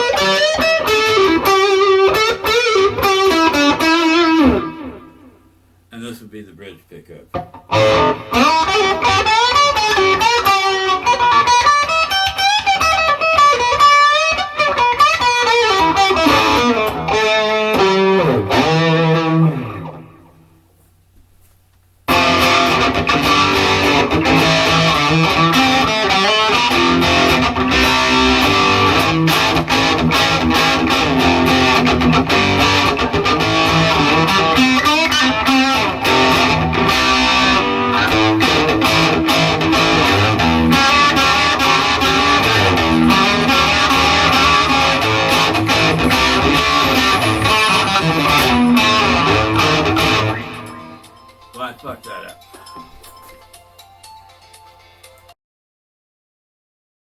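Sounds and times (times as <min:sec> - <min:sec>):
clean electric guitar playing: 0:00.0 - 0:05.5, 0:07.4 - 0:20.5, 0:22.1 - 0:53.4.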